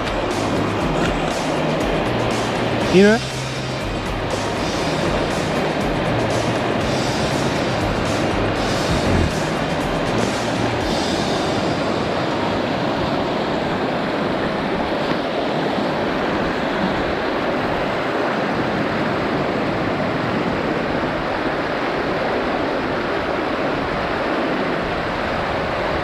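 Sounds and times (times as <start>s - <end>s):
river rapids rushing over rocks: 0.0s - 26.0s.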